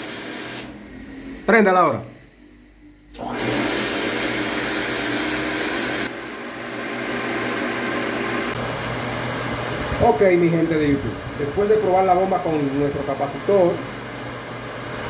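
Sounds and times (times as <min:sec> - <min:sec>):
water pump motor humming: 0:00.0 - 0:01.8, 0:03.1 - 0:15.0.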